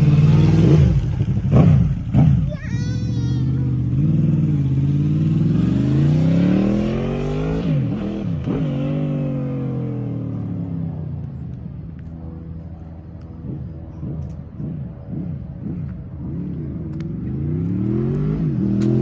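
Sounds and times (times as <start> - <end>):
motorcycle engine revving: 0.0 - 11.5, 12.2 - 19.0.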